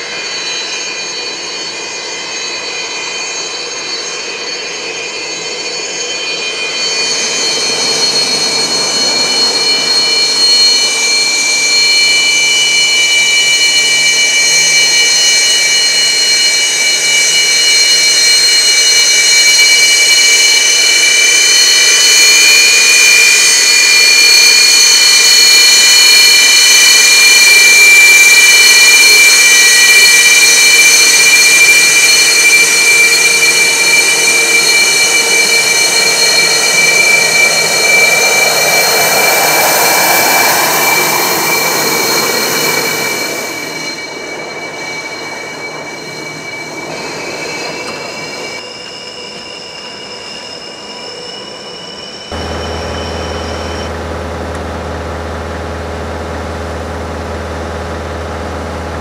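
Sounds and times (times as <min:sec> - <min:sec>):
jet engines whining: 0:00.0 - 0:49.0, 0:52.3 - 0:59.0.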